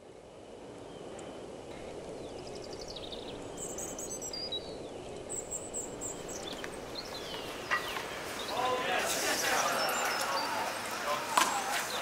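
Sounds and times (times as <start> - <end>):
background environmental hum: 0.0 - 12.0
birds chirping: 0.0 - 12.0.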